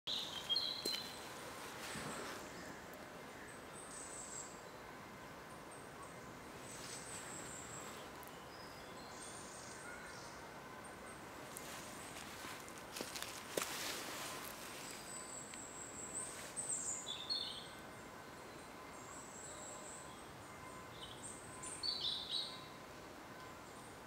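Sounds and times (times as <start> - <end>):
low steady hiss: 0.1 - 24.0.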